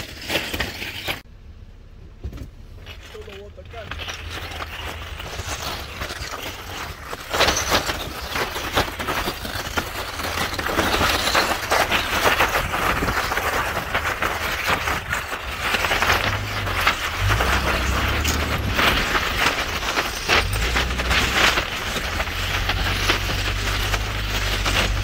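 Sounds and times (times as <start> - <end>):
stones cracking and clattering: 0.0 - 1.2, 2.7 - 25.0
low engine rumble: 1.2 - 8.2, 11.4 - 25.0
tyres crunching over rock: 2.4 - 25.0.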